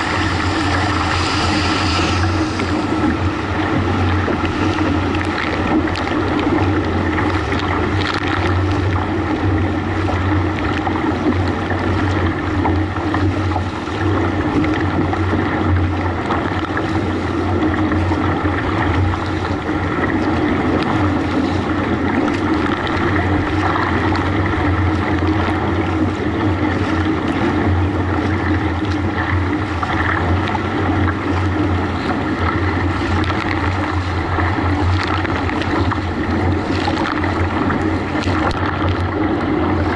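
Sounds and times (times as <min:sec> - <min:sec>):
motorboat engine drone: 0:00.0 - 0:39.9
paddle strokes in water: 0:00.0 - 0:39.9
rushing splashing water: 0:00.0 - 0:39.9.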